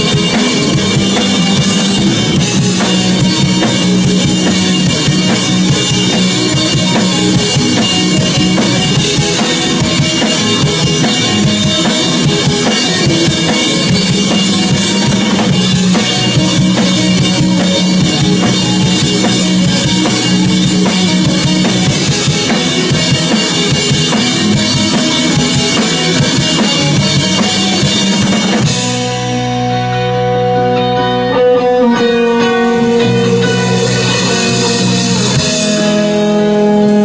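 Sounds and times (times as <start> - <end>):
drum kit playing busy beat: 0.0 - 37.0
rock music: 0.0 - 37.0.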